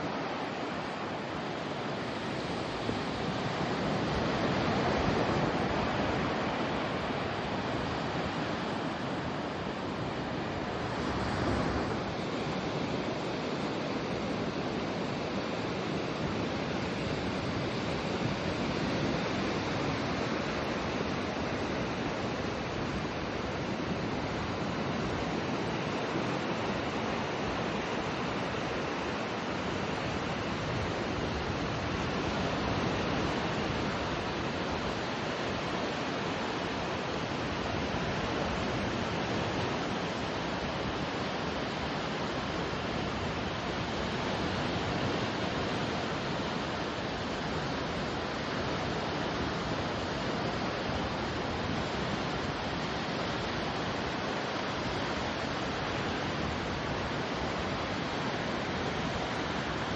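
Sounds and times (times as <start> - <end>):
ocean waves washing on shore: 0.0 - 59.9.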